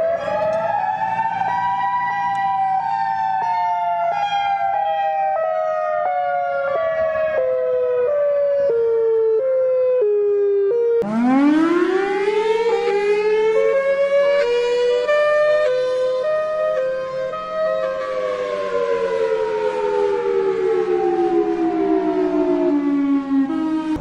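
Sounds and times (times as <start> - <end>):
siren starting up: 0.0 - 24.0
warning siren winding down: 0.0 - 24.0.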